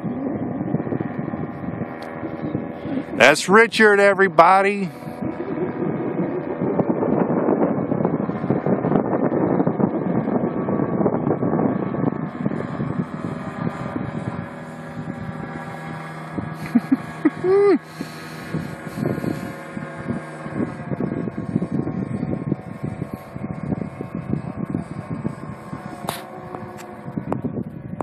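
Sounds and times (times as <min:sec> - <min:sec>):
paramotor engine droning: 0:00.0 - 0:28.0
wind buffeting microphone: 0:00.0 - 0:28.0.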